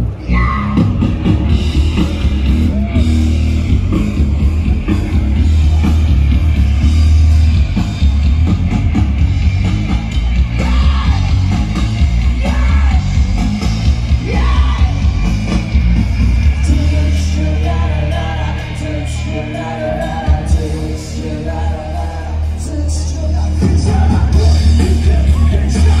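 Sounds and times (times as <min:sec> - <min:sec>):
rock music through pa: 0:00.0 - 0:26.0.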